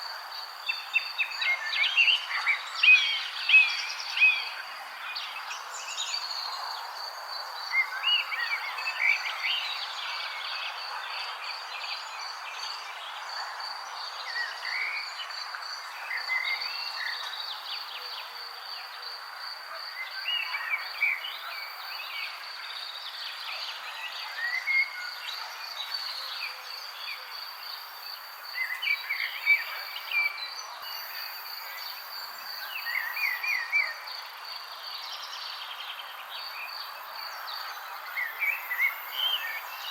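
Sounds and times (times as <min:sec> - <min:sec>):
soft outdoor hiss: 0:00.0 - 0:39.9.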